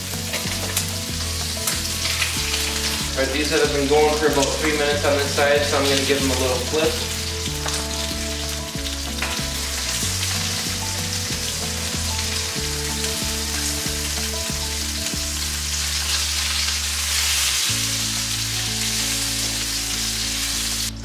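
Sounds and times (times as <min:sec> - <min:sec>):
duck breasts sizzling in a pan: 0:00.0 - 0:21.0.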